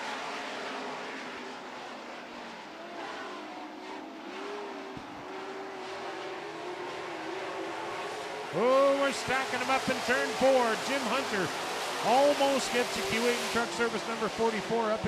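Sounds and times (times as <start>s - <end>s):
racing truck engines: 0.0s - 15.0s.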